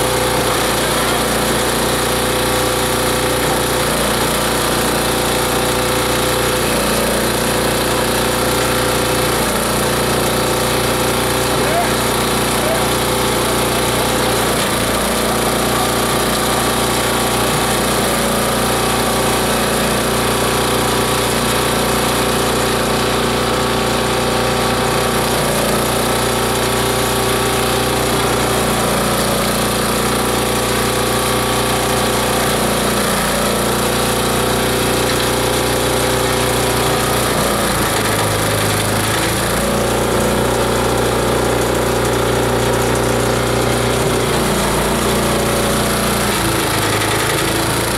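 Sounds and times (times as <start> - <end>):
shredder machine drone: 0.0 - 47.9.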